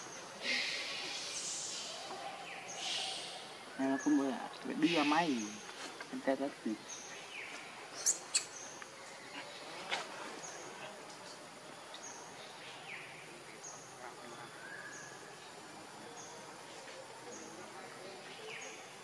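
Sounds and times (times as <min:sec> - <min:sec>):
birds: 0:00.0 - 0:19.0
insects: 0:00.0 - 0:19.0.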